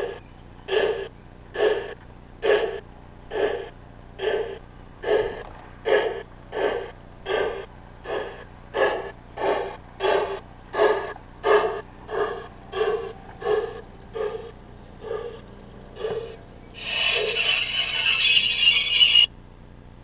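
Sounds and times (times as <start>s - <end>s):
model steam locomotive chuffs: 0.0s - 19.3s
faint steady hum: 0.0s - 20.0s.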